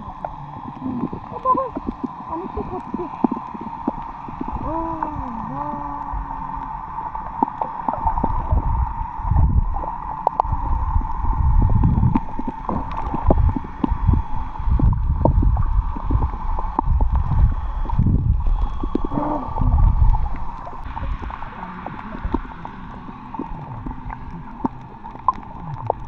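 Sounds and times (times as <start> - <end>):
steady hum: 0.0 - 26.0
underwater water surges: 0.0 - 26.0.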